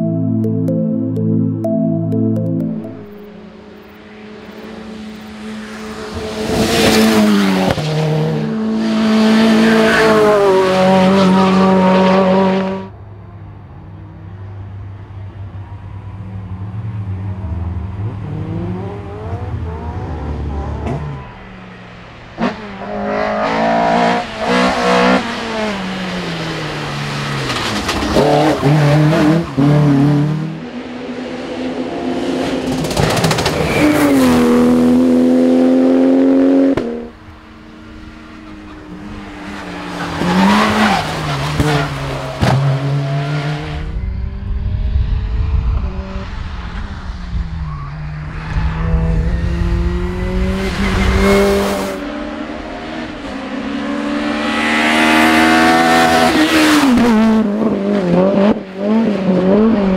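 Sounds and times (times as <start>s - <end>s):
race car engines at full throttle: 3.1s - 59.9s.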